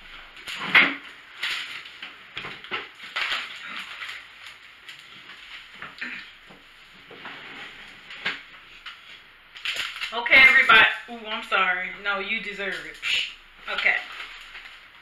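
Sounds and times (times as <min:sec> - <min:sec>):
paper wrapping rustling: 0:00.0 - 0:15.0.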